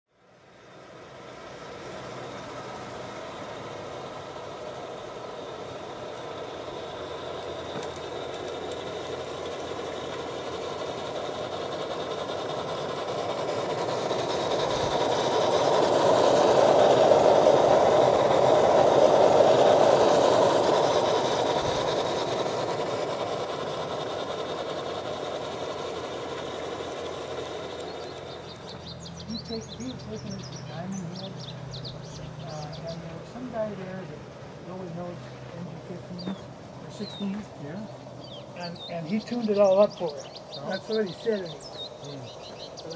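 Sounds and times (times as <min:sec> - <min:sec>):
model steam train running past: 0:00.1 - 0:42.9.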